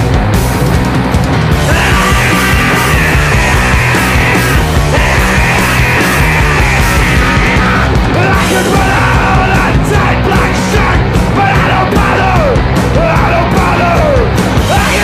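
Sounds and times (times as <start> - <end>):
fast rock music with shouted vocals: 0.0 - 15.0.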